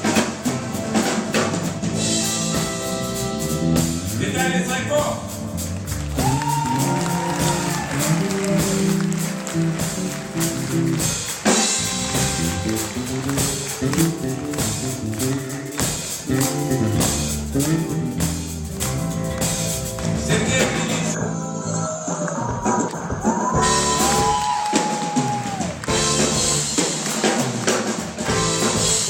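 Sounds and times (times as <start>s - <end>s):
live pop band playing: 0.0s - 29.0s.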